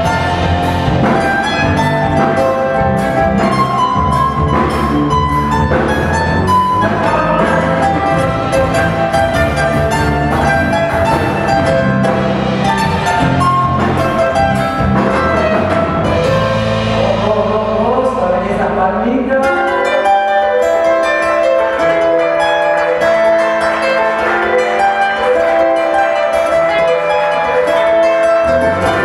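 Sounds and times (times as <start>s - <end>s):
band accompaniment: 0.0s - 29.0s
bright plucked lute notes: 0.0s - 29.0s.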